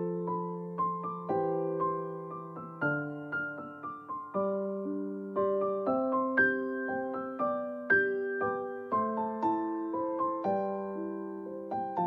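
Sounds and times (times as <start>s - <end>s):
piano notes and chords: 0.0s - 12.0s.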